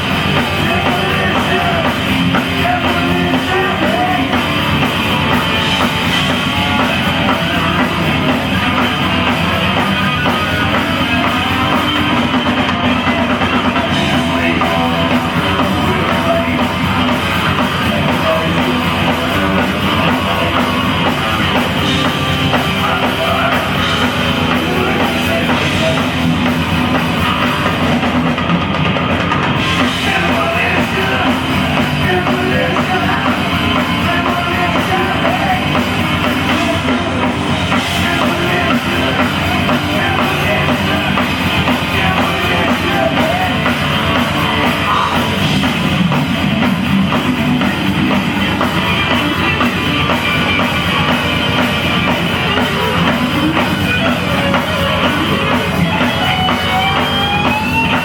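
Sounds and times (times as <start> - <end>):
person singing: 0.0 - 28.0, 29.5 - 58.0
bass guitar: 0.0 - 58.0
distorted electric guitars: 0.0 - 58.0
pounding drum kit: 0.0 - 58.0.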